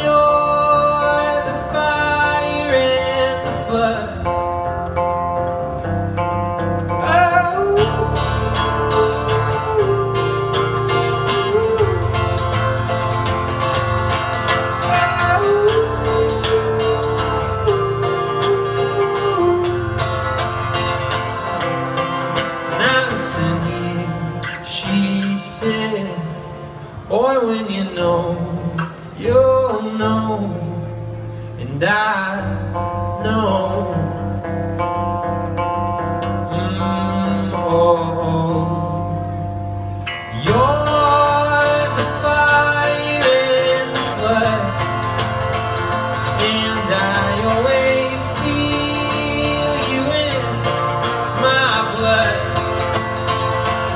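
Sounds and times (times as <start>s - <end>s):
man singing: 0.0s - 5.3s, 6.9s - 20.8s, 22.5s - 35.0s, 36.0s - 39.5s, 40.2s - 53.9s
acoustic guitar strummed: 0.0s - 53.9s.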